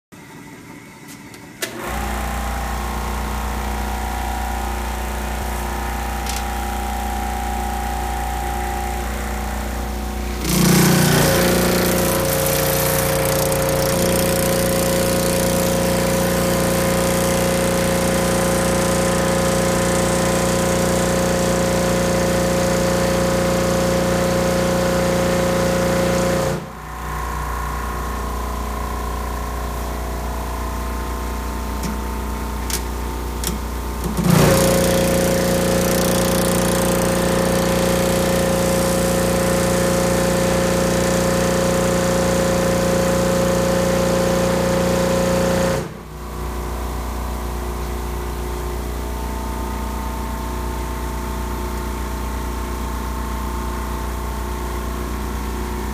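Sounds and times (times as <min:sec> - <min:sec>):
sheet-metal machine running: 0:00.6 - 0:46.0.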